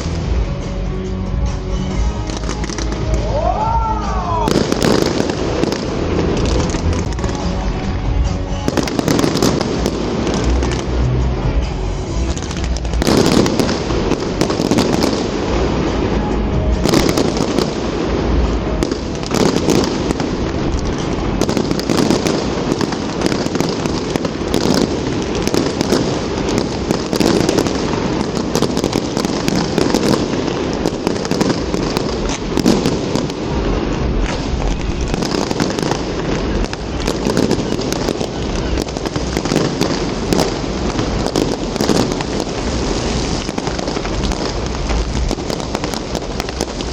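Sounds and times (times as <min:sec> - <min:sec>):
deep fireworks booms: 0:00.0 - 0:46.9
fireworks bangs and crackling: 0:00.0 - 0:46.9.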